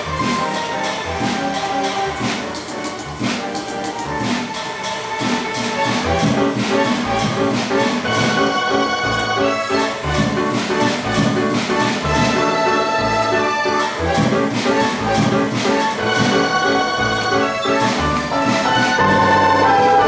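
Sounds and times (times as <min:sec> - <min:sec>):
mechanical orchestra machine music: 0:00.0 - 0:20.0.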